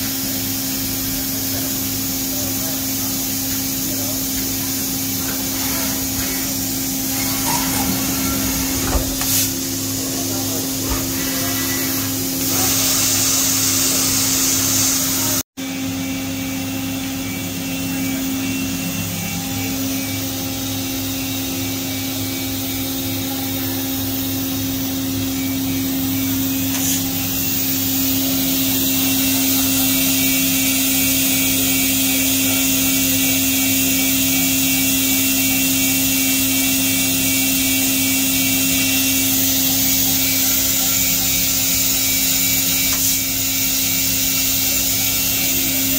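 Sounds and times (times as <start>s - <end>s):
machine hum and whine: 0.0s - 45.9s.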